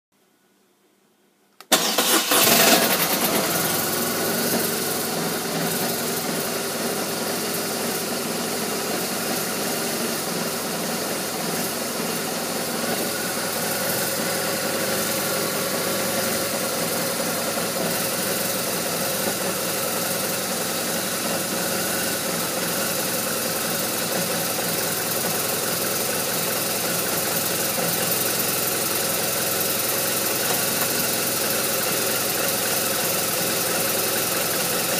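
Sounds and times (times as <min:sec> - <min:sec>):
motorcycle engine idling: 0:02.8 - 0:34.9.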